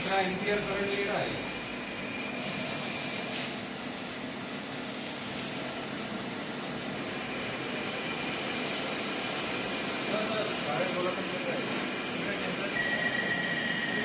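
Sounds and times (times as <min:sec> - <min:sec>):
high-pitched whine: 0:00.0 - 0:14.0
machine hiss and hum: 0:00.0 - 0:14.0.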